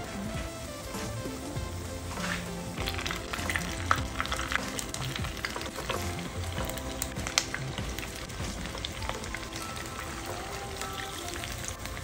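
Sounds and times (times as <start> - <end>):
background music: 0.0 - 12.0
potato cakes sizzling in oil: 0.0 - 12.0.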